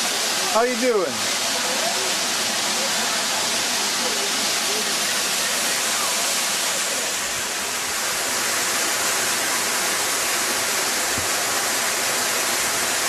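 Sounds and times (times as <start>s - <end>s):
waterfall into rock pool: 0.0s - 13.0s.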